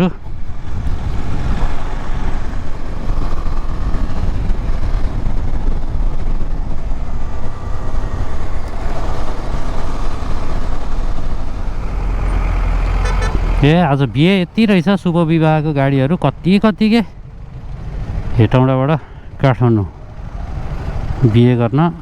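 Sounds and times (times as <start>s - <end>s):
wind rumble on microphone: 0.0s - 13.6s, 17.1s - 18.6s, 19.3s - 22.0s
motorcycle engine: 0.0s - 14.6s, 15.3s - 22.0s.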